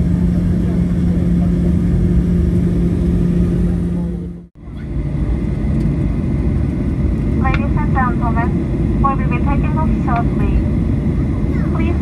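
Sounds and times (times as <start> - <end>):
airliner cabin engine rumble: 0.0 - 12.0
low hum: 0.0 - 12.0.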